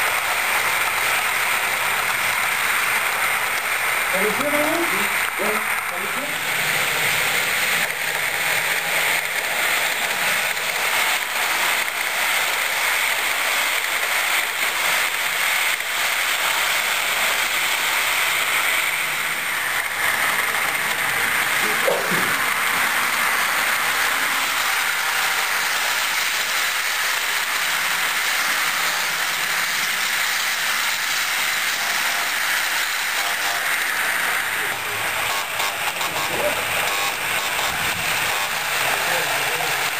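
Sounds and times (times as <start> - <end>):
model train rolling: 0.0 - 39.9.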